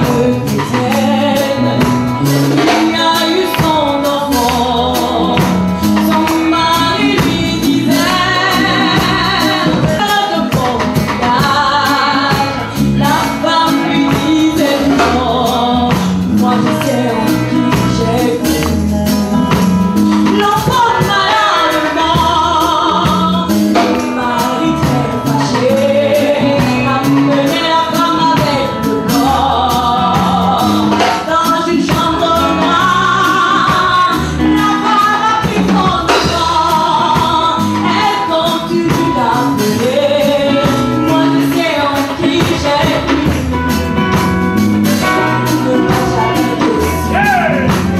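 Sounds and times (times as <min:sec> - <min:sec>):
group singing gospel: 0:00.0 - 0:47.9
instrumental accompaniment with beat: 0:00.0 - 0:47.9.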